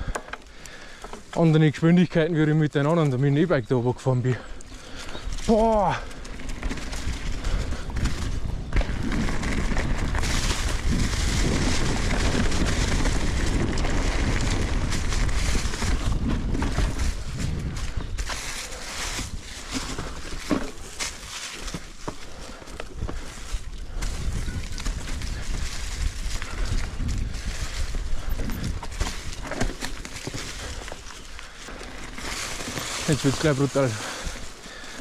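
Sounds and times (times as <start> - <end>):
bike tyres rolling over dirt: 0.0 - 35.0
wind buffeting microphone: 4.8 - 35.0
bike knocks and rattles: 5.4 - 35.0.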